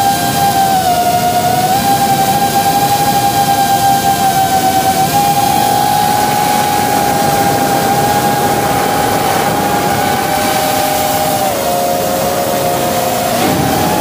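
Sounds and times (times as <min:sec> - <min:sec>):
drone motors whining: 0:00.0 - 0:14.0
rushing hiss: 0:00.0 - 0:14.0.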